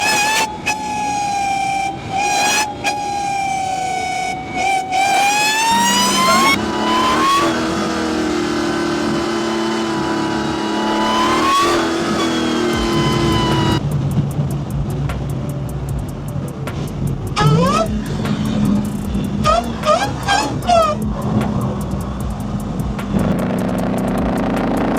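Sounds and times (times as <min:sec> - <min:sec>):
car engine revving: 0:00.0 - 0:24.9
supercharger whine: 0:00.0 - 0:24.9.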